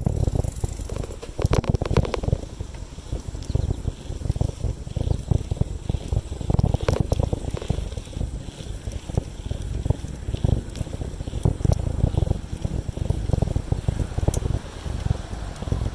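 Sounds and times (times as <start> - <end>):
sharp clicks and rattles: 0.0 - 15.9
wind buffeting microphone: 0.0 - 15.9.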